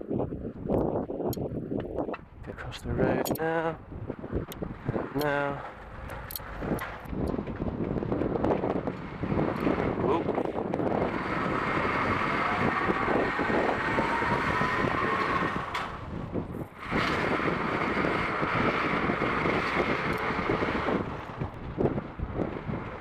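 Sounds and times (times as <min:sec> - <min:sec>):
road and tyre noise: 0:00.0 - 0:23.0
wind rushing over microphone: 0:00.0 - 0:23.0.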